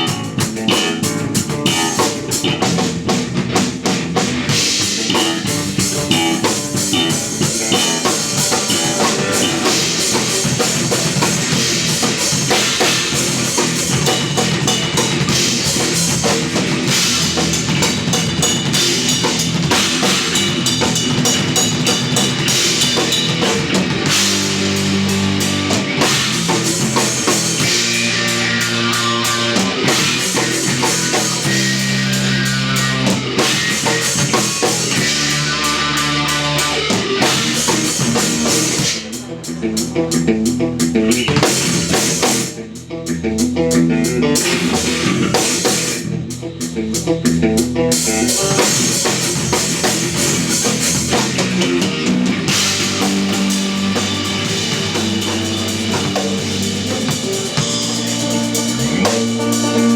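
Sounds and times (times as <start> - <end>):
busy drums and cymbals: 0.0 - 59.9
electric bass: 0.0 - 59.9
electric guitar: 0.0 - 59.9.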